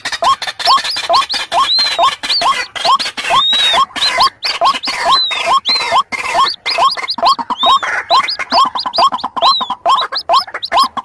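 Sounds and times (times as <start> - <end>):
high squeals: 0.0 - 11.0
scratchy clicking: 0.0 - 11.0
waterhens calling: 0.0 - 11.0.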